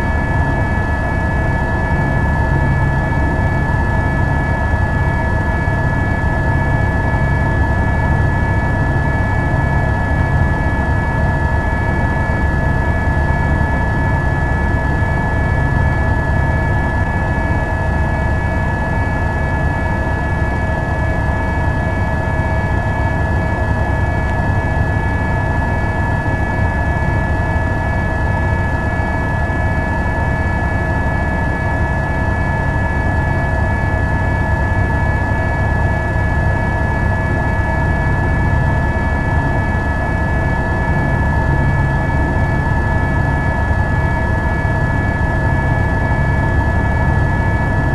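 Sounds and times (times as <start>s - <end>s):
helicopter engine and rotor: 0.0s - 47.9s.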